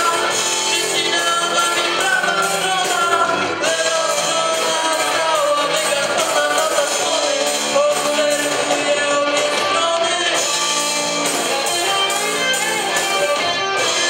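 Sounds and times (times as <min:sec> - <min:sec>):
live rock band playing: 0:00.0 - 0:14.0
man singing: 0:00.0 - 0:14.0.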